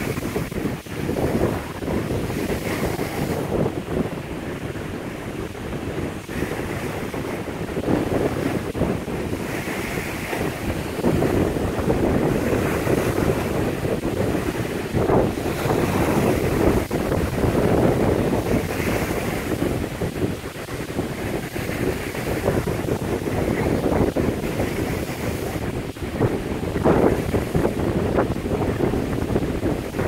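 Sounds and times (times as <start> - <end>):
waves crashing over wall: 0.0 - 30.0
wind buffeting microphone: 0.0 - 30.0.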